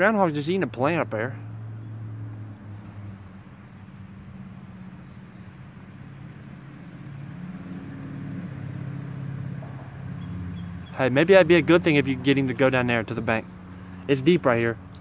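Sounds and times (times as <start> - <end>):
distant road traffic drone: 0.0 - 15.0.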